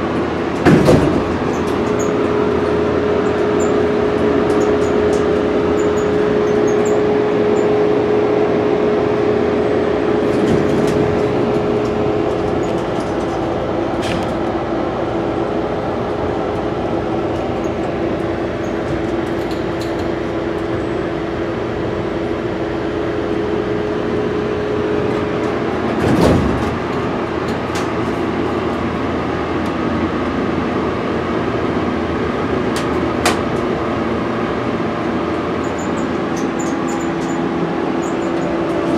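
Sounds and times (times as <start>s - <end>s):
elevator fan whirring: 0.0s - 38.9s.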